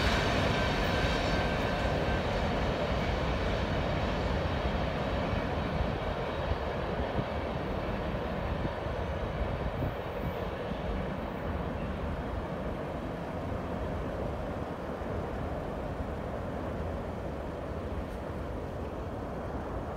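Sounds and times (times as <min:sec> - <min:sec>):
freight train rumble: 0:00.0 - 0:19.9.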